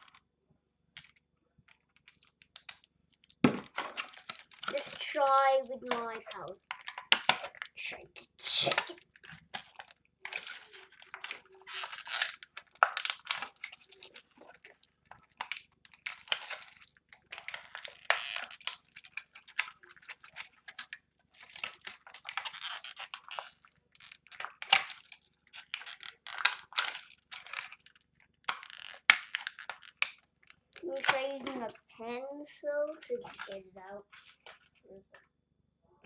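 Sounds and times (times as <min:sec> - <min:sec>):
hard plastic scraping and clicking: 0:01.0 - 0:32.2, 0:32.9 - 0:34.8.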